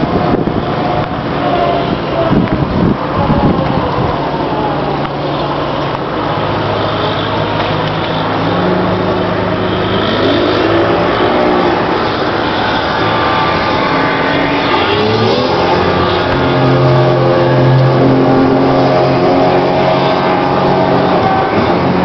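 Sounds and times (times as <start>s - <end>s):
boat engines running: 0.0s - 22.0s.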